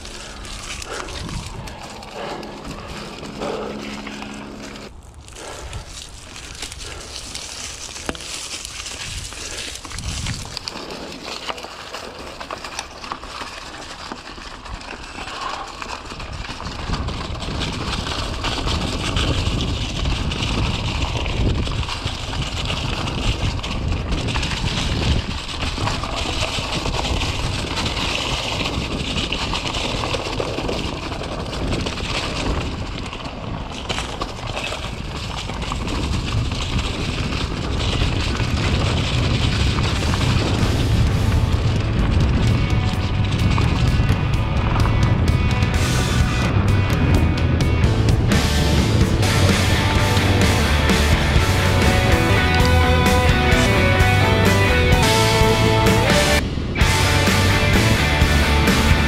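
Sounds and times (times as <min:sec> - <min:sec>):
deep rumble: 0:00.0 - 0:11.2, 0:15.2 - 0:59.0
bike tyres crunching on dirt trail: 0:00.0 - 0:59.0.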